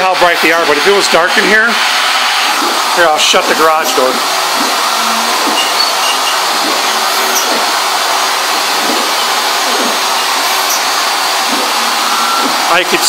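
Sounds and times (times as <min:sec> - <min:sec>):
stepper motors whining: 0:00.4 - 0:13.0
machine motor whirring: 0:00.5 - 0:13.0.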